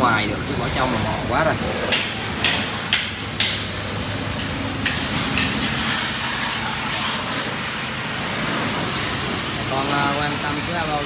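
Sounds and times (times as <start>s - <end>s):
pressure washer spray hissing: 2.1s - 11.0s.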